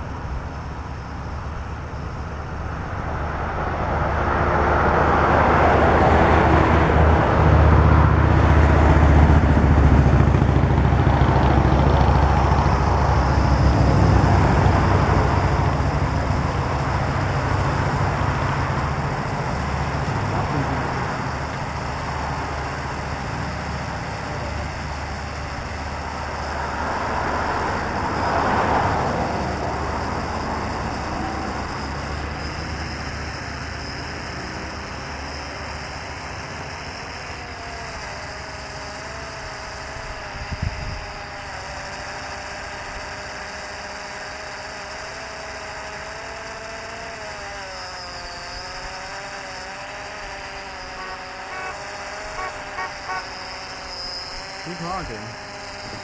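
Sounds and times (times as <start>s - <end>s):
drone motor whine: 0.0s - 56.0s
steady outdoor rush: 0.0s - 56.0s.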